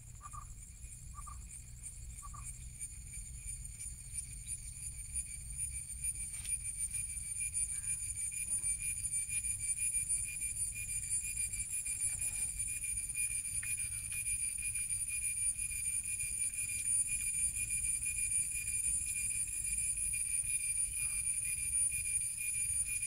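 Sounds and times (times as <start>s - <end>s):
insects buzzing high tones: 0.0s - 23.0s.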